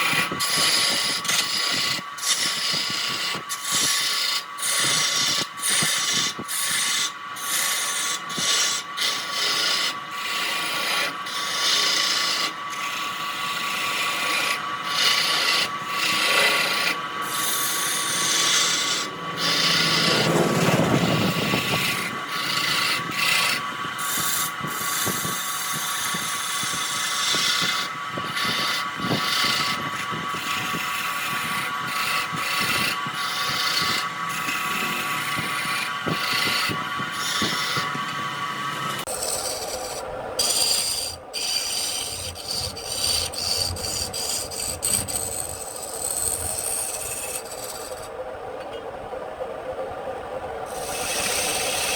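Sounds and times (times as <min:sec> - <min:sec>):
turning tool cutting wood: 0:00.0 - 0:48.1, 0:50.7 - 0:51.9
wood lathe whine: 0:00.0 - 0:51.9.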